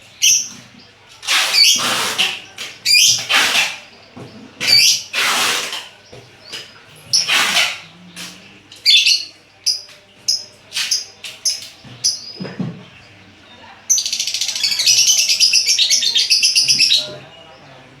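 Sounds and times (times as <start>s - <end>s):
lovebirds screeching: 0.0s - 17.9s
lovebirds chirping: 0.0s - 18.0s.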